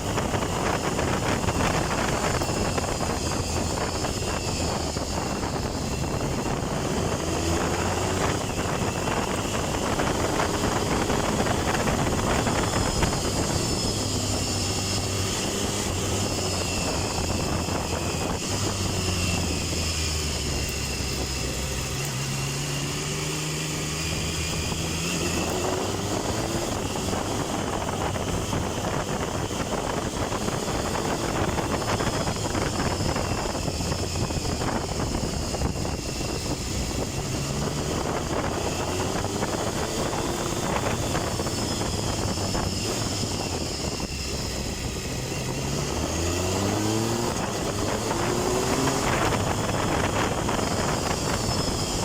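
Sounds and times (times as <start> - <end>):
motorcycle engine on the move: 0.0 - 52.0.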